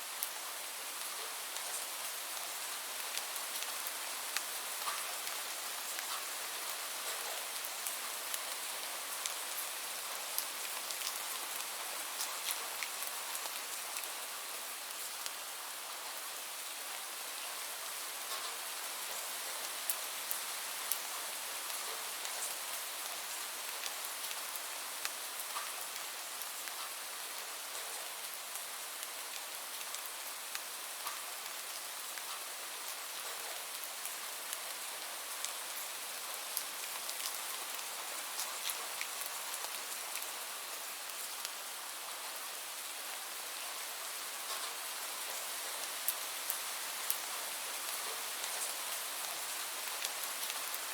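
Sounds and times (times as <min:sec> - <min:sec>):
steady rain hiss: 0:00.0 - 0:50.9
raindrops ticking on surface: 0:01.0 - 0:14.2, 0:18.2 - 0:41.6, 0:44.4 - 0:50.9.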